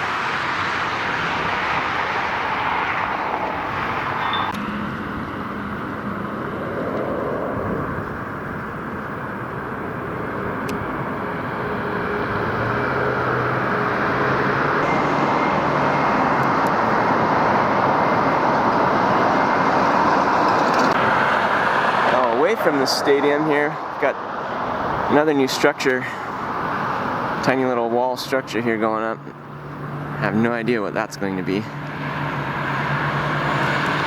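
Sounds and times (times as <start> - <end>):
aircraft engine and wind in flight: 0.0 - 34.0.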